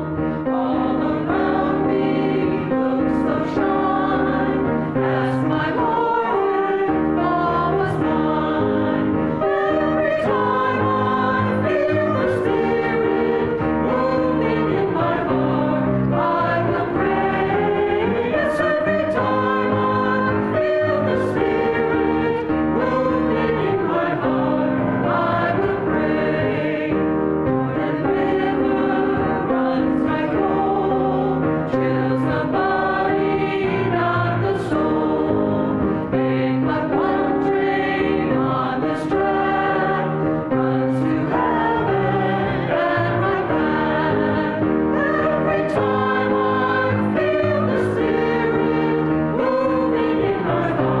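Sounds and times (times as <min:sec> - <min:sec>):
choir singing a hymn: 0:00.0 - 0:51.0.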